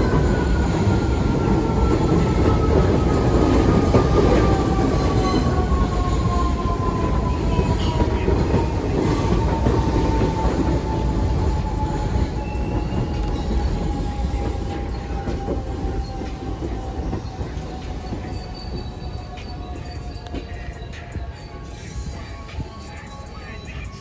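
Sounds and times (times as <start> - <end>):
subway train wheels rumbling on rail: 0.0 - 24.0.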